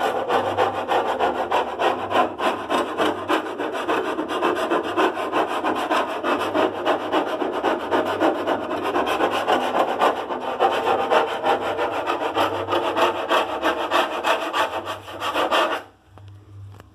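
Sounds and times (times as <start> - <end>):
fast rasping strokes: 0.0 - 15.9.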